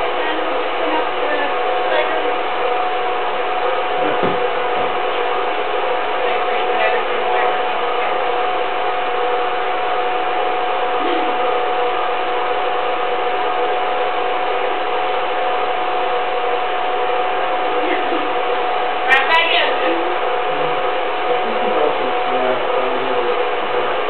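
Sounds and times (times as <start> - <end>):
film projector whirring: 0.0 - 24.0.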